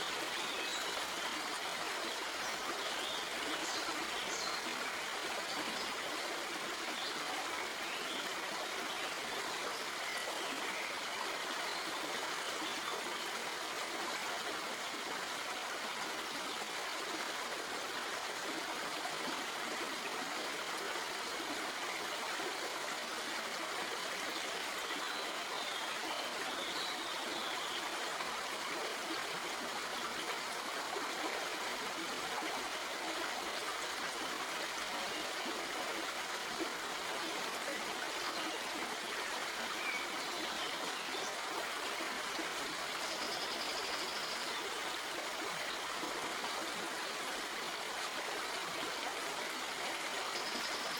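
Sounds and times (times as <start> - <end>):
stream flowing over rocks: 0.0 - 50.9.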